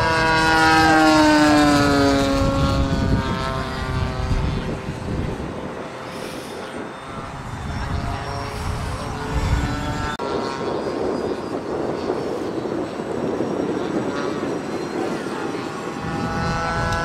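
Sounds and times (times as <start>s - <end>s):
electric ducted fans whining: 0.0s - 17.0s.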